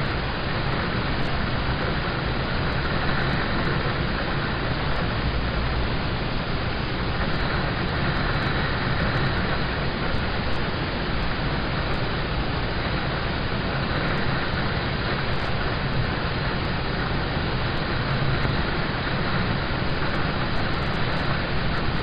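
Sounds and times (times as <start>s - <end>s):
rain on car roof: 0.0s - 22.0s.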